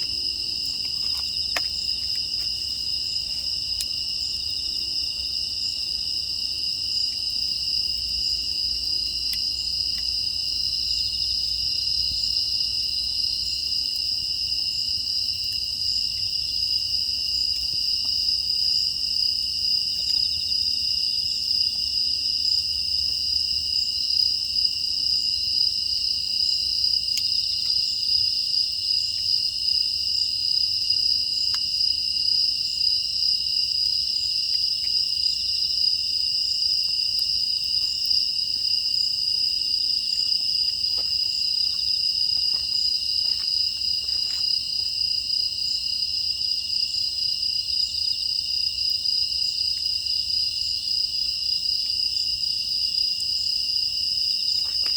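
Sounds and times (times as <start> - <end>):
faint ticks and crackles: 0.0 - 5.4, 7.0 - 13.0, 13.7 - 20.7, 21.5 - 45.8, 46.4 - 54.9
crickets and grass insects chirping: 0.0 - 54.9.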